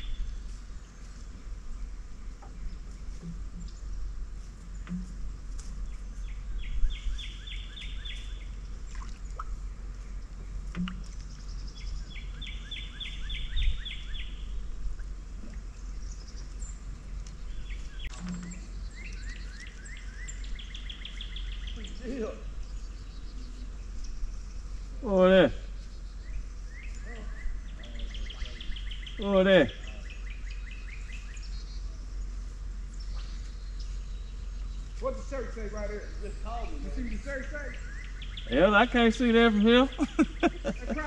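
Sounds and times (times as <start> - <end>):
low outdoor rumble: 0.0 - 41.0
songbird singing: 0.0 - 41.0.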